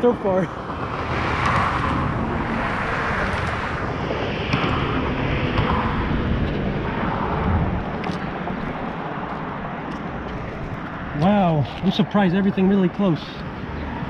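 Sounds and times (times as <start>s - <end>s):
road traffic rumbling: 0.0s - 14.0s.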